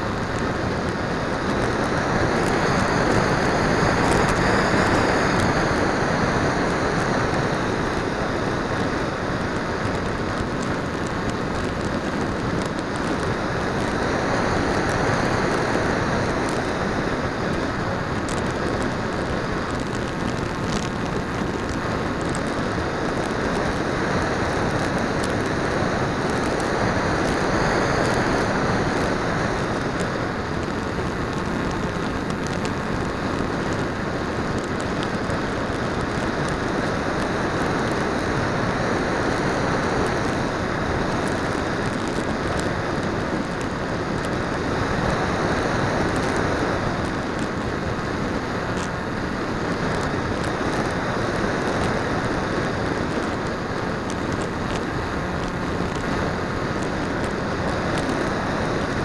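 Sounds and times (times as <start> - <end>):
propeller noise: 0.0 - 59.0.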